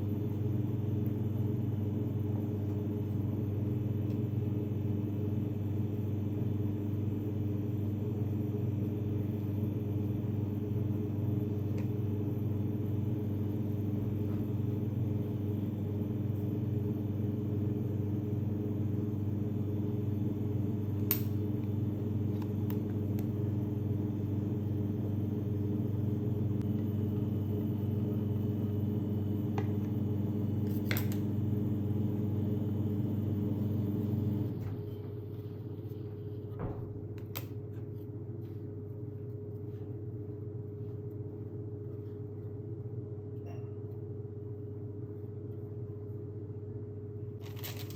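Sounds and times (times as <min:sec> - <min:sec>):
low machine hum: 0:00.0 - 0:47.9.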